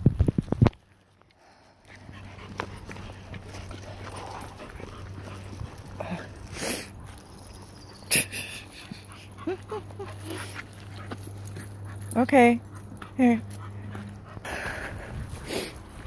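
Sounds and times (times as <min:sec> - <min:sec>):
low steady background noise: 0:00.2 - 0:16.0.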